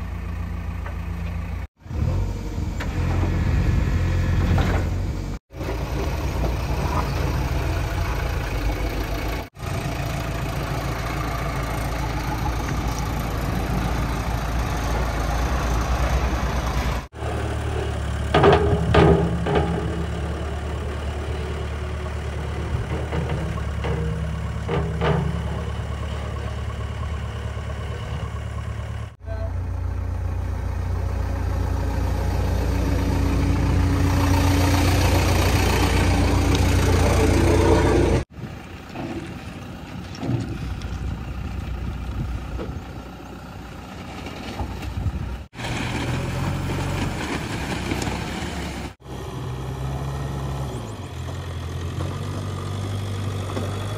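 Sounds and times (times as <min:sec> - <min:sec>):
diesel engine idling: 0:00.0 - 0:04.3, 0:04.9 - 0:45.7.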